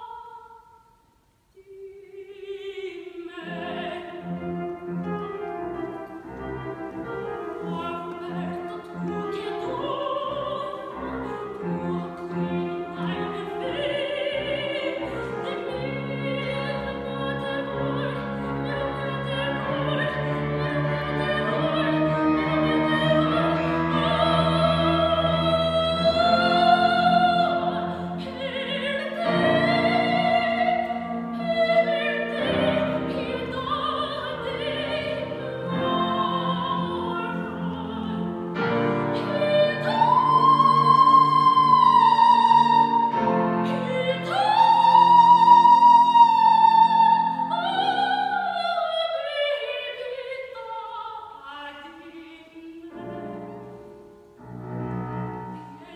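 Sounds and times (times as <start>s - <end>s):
woman singing operatically: 0.0s - 0.7s, 1.6s - 4.7s, 5.4s - 53.5s
grand piano accompaniment: 2.7s - 55.9s.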